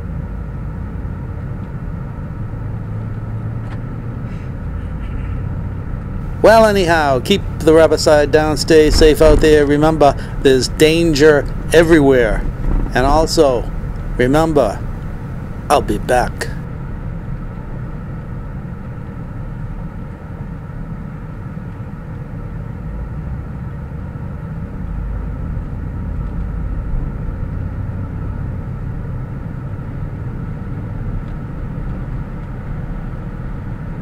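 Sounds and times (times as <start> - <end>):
faint steady hum: 0.0 - 34.0
motor vehicle rumbling: 0.0 - 34.0.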